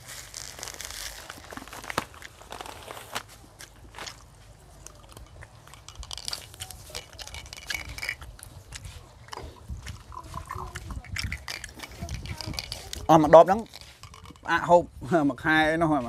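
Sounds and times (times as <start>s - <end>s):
person chewing and crunching food: 0.0s - 14.6s.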